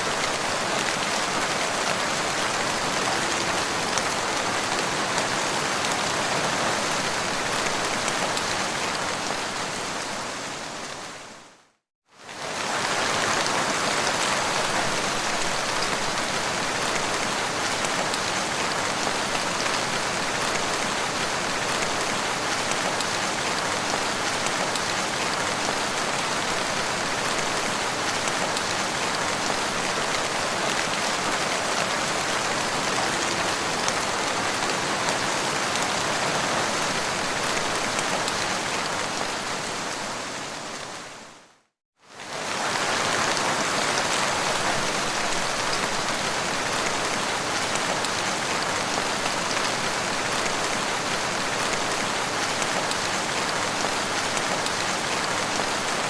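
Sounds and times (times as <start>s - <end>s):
rain pattering on ground: 0.0s - 10.0s, 12.2s - 41.0s, 42.1s - 56.0s.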